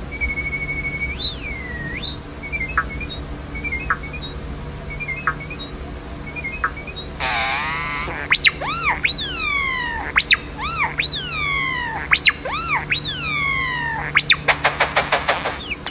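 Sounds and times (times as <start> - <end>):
starling whistles and beeps: 0.1 - 15.9.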